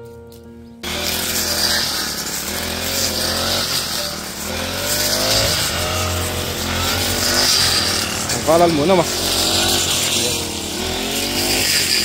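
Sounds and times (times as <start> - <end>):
brush cutter engine whine: 0.8 - 12.0.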